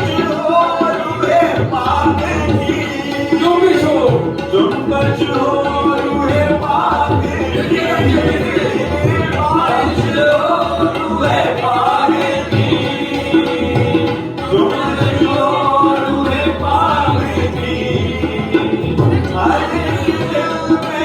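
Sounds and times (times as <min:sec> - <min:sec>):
hand drums and percussion: 0:00.0 - 0:21.0.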